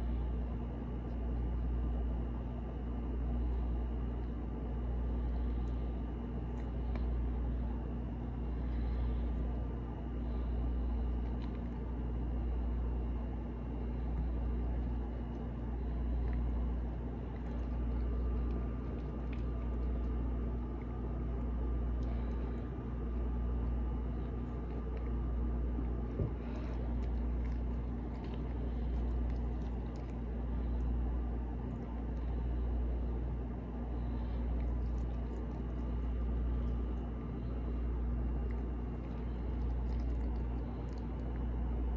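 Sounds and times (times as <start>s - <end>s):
faint high whine: 0.0s - 41.9s
low machine hum: 0.0s - 41.9s.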